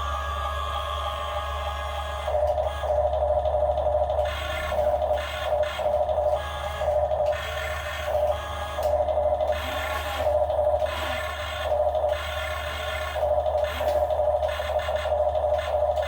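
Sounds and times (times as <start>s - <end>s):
electric motors whining in pulses: 0.0s - 16.0s.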